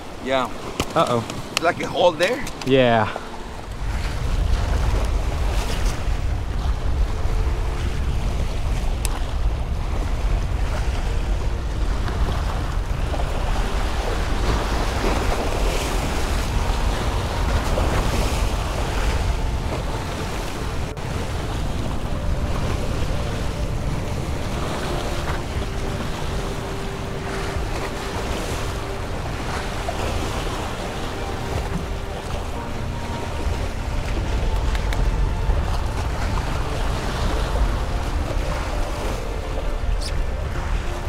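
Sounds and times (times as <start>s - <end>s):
waves breaking against rocks: 0.0s - 41.0s
wind buffeting microphone: 0.0s - 41.0s.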